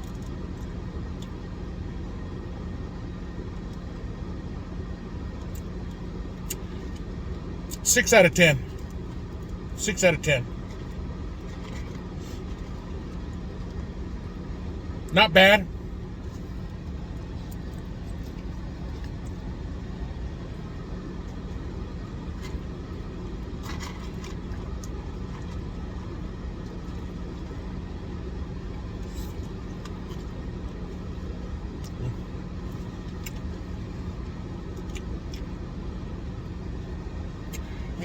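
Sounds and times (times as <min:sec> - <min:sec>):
car engine idling: 0:00.0 - 0:38.0
constant low hum: 0:00.0 - 0:38.0.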